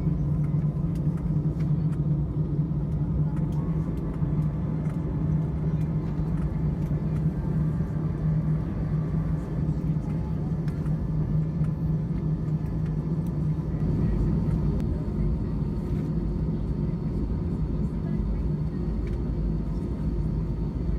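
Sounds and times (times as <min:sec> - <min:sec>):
jet engine drone in cabin: 0:00.0 - 0:20.9.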